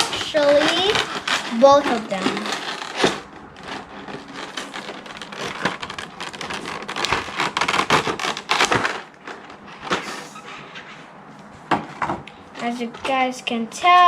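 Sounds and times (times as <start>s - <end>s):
plastic and cardboard crinkling: 0.0s - 14.0s.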